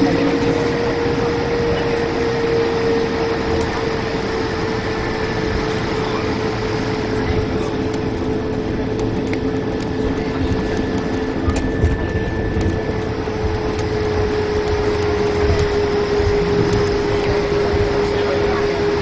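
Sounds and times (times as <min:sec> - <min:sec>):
low rumble: 0:00.0 - 0:18.6
airliner cabin hum and drone: 0:00.0 - 0:19.0.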